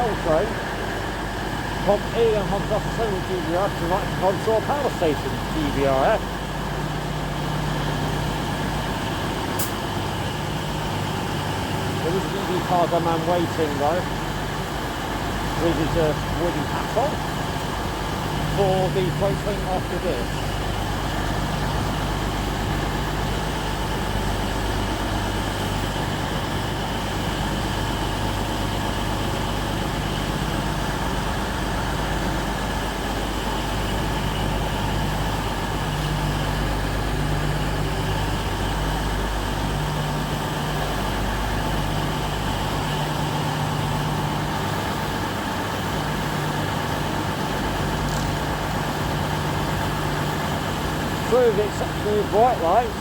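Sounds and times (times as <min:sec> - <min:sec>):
diesel locomotive engine rumble: 0:00.0 - 0:53.0.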